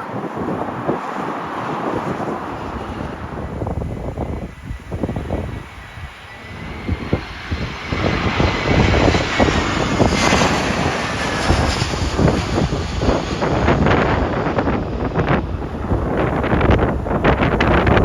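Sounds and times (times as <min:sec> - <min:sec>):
jet airliner passing overhead: 0:00.0 - 0:18.0
wind buffeting microphone: 0:00.0 - 0:18.0.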